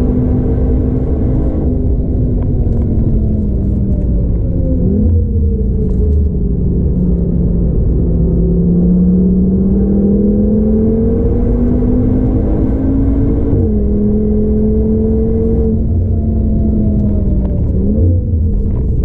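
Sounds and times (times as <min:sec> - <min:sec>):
car engine accelerating: 0:00.0 - 0:19.0
road and tyre rumble: 0:00.0 - 0:19.0.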